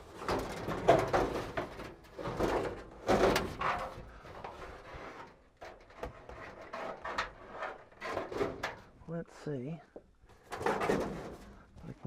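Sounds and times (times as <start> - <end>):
parts scraping and knocking: 0.0 - 9.0, 10.0 - 11.8.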